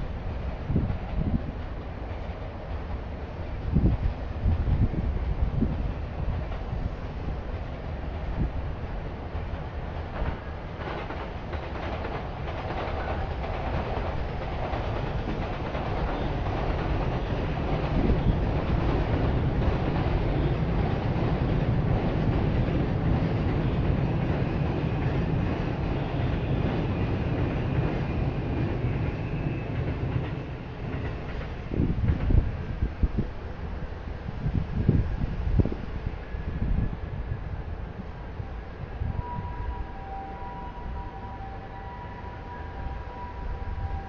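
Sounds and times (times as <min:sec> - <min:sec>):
passing train rumble: 0:00.0 - 0:44.0.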